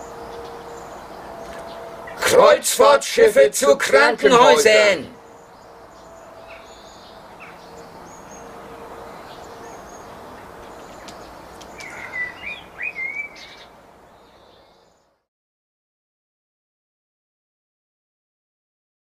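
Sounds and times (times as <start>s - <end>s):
songbirds chirping: 0.0s - 15.2s.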